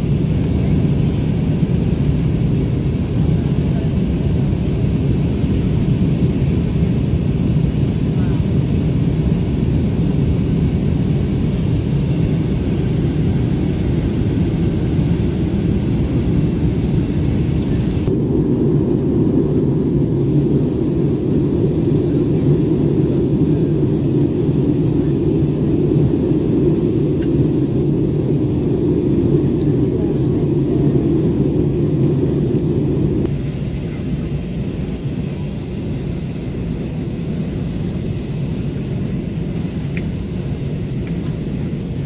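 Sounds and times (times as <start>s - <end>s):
jet engine and airflow rumble: 0.0s - 42.0s.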